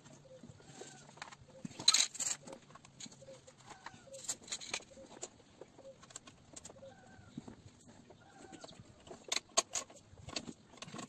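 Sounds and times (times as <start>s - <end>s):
chickens clucking: 0.1s - 9.3s.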